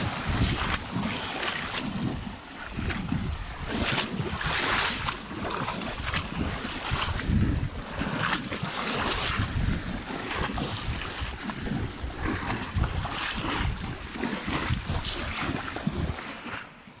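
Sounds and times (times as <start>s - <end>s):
wind buffeting microphone: 0.0s - 16.6s
shallow seawater splashing: 0.0s - 17.0s.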